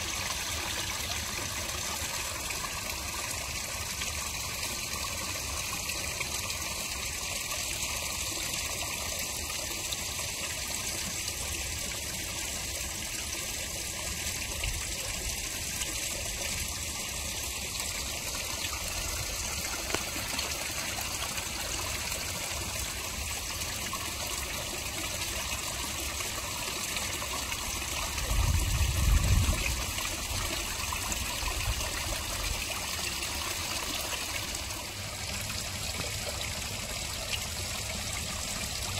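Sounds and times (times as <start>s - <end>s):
water trickling into a pond: 0.0s - 38.9s.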